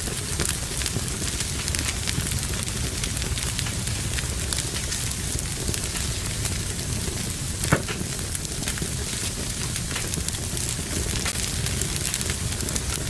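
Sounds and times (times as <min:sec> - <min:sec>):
fire popping: 0:00.0 - 0:13.0
wood fire crackling: 0:00.0 - 0:13.0.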